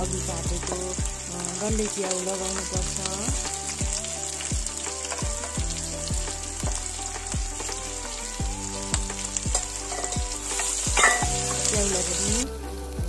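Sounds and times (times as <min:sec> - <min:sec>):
background music with drum beat: 0:00.0 - 0:13.0
oil sizzling in a frying pan: 0:00.0 - 0:13.0.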